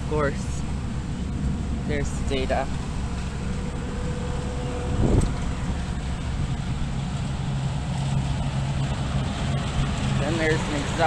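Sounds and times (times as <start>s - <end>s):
heat pump units humming: 0.0s - 11.0s.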